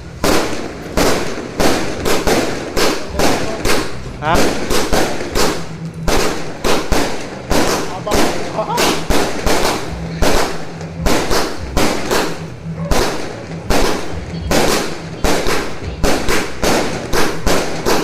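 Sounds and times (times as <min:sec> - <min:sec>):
firecrackers and fireworks banging: 0:00.0 - 0:18.0.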